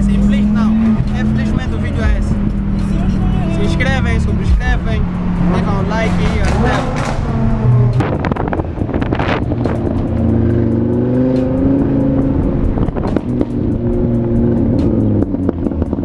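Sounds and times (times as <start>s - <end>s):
music playing: 0.0s - 16.0s
sports car engine running: 0.0s - 16.0s.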